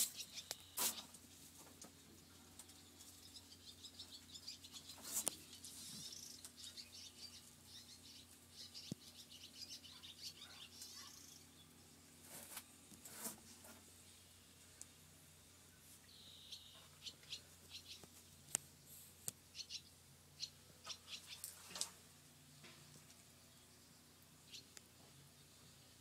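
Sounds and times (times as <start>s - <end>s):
faint bird chirping: 0.0s - 1.2s, 1.9s - 12.0s, 14.0s - 21.8s, 22.5s - 26.0s.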